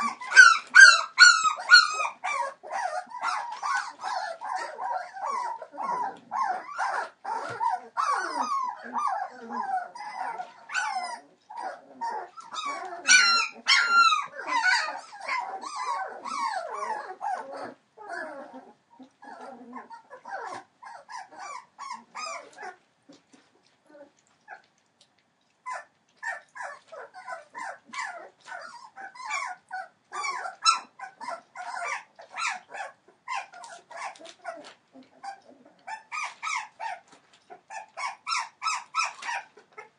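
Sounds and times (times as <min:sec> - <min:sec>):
puppy squeal: 0:00.0 - 0:22.8, 0:25.7 - 0:39.9
puppies whining and yipping: 0:00.0 - 0:24.8, 0:25.6 - 0:39.9.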